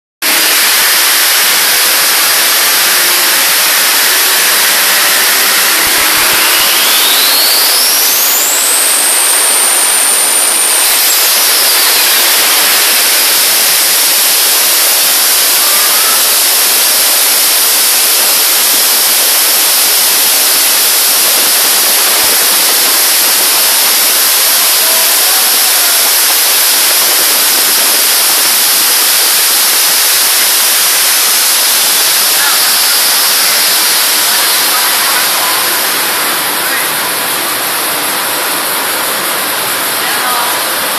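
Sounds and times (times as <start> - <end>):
high turbo whistle: 0.2 - 40.6
engine rushing noise: 0.2 - 40.9.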